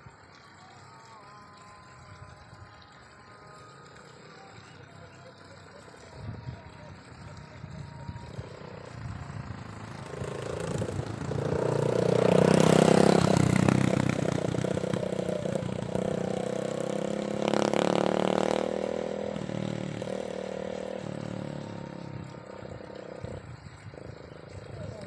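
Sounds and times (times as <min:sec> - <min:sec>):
engine running: 0:01.6 - 0:25.0.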